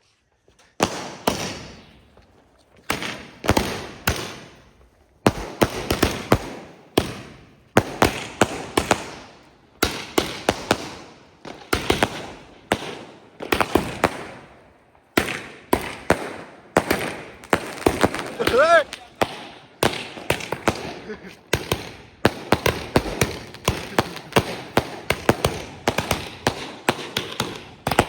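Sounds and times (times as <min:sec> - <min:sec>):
firecrackers banging: 0:00.6 - 0:28.0.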